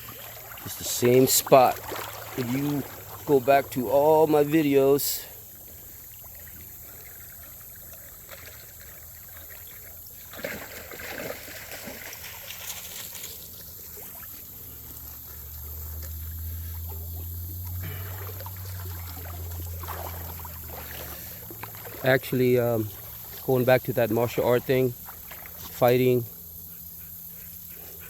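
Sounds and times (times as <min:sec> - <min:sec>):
crackling and splashing: 0:00.0 - 0:26.2
creek water trickling: 0:00.0 - 0:28.0.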